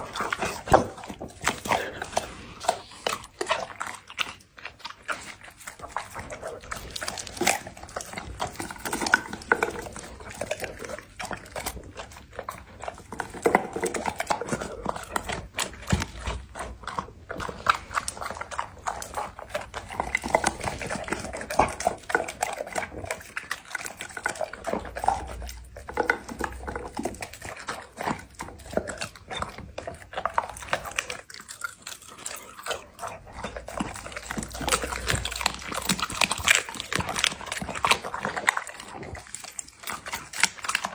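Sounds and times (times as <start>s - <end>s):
dog chewing and crunching: 0.0s - 40.9s.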